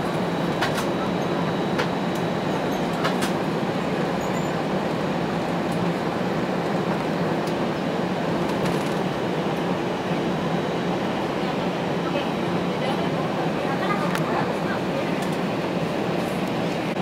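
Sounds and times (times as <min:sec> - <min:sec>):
jet engines idling: 0:00.0 - 0:17.0
plane rolling rumble: 0:00.0 - 0:17.0.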